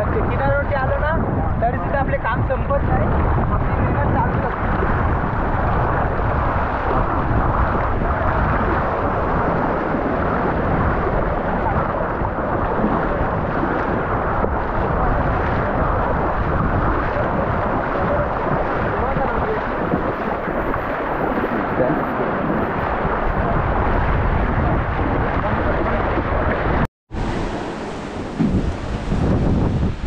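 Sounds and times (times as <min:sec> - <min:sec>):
waves rushing in: 0:00.0 - 0:30.0
wind buffeting microphone: 0:00.0 - 0:30.0
surf splashing around legs: 0:02.4 - 0:30.0.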